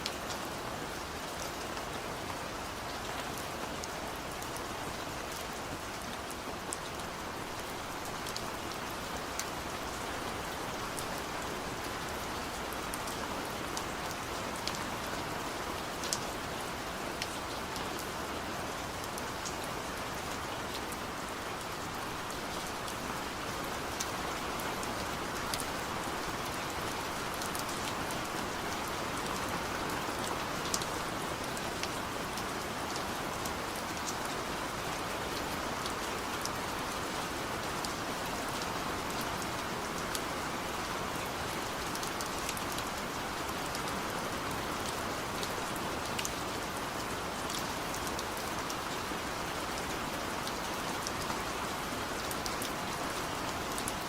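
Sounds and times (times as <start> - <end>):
rain drops ticking on surface: 0.0 - 54.0
steady rain hiss: 0.0 - 54.0.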